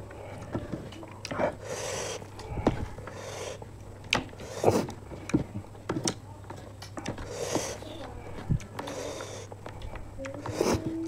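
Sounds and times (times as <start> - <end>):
fingers mixing rice on plate: 0.0 - 11.0.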